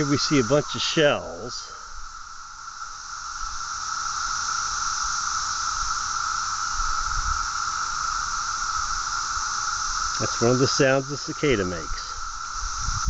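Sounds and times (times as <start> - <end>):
cicadas buzzing in chorus: 0.0 - 13.0.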